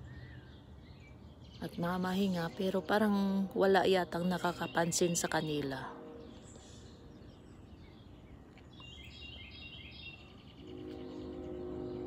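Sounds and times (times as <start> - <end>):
low background noise: 0.0 - 12.0
low multi-tone hum: 0.0 - 12.0.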